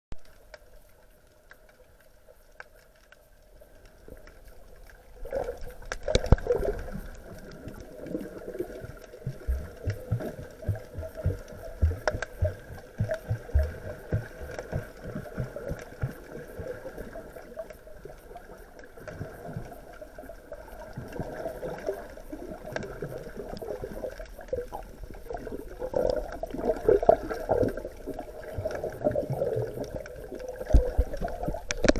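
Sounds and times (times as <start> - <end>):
underwater sloshing and gurgling: 0.2 - 31.9
air bubbles gurgling: 3.9 - 31.9.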